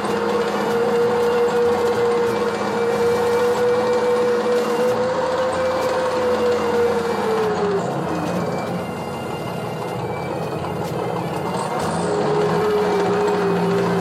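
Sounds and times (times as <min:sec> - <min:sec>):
simulated tank engine sound: 0:00.0 - 0:14.0
steady whine: 0:00.0 - 0:14.0.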